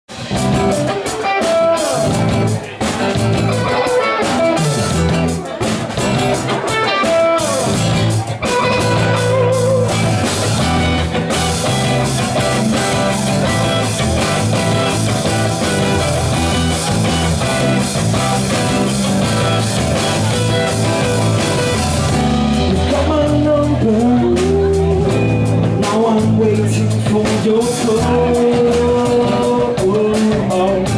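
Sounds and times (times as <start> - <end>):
rock band playing: 0.1 - 30.9.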